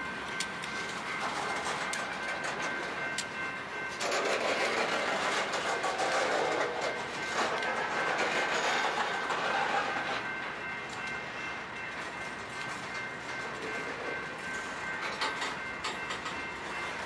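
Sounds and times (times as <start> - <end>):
rumble and rattle of train cars: 0.0 - 17.0
train wheels clicking on rails: 0.0 - 17.0.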